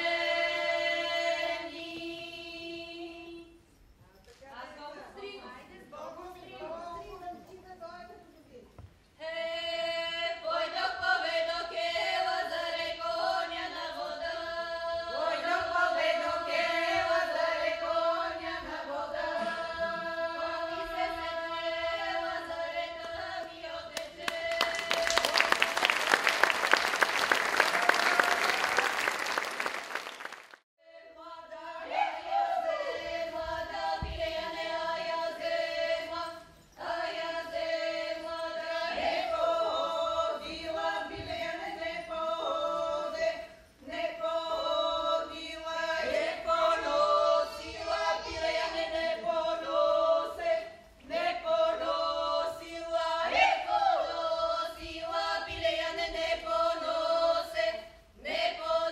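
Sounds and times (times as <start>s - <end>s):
women's choir singing over a drone: 0.0s - 3.6s, 9.2s - 25.5s, 30.8s - 58.9s.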